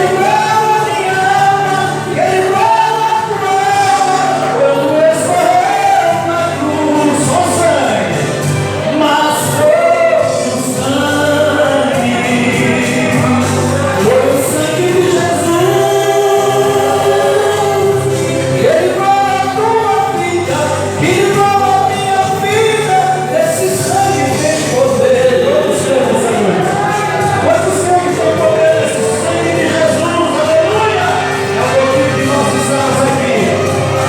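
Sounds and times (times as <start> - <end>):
group of singers singing: 0.0 - 8.2, 8.8 - 34.0
worship band playing: 0.0 - 34.0.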